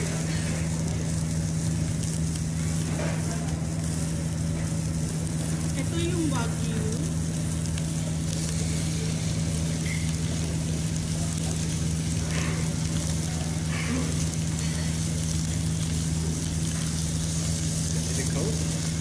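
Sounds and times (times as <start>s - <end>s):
constant low hum: 0.0s - 19.0s
meat sizzling on grill plate: 0.0s - 19.0s.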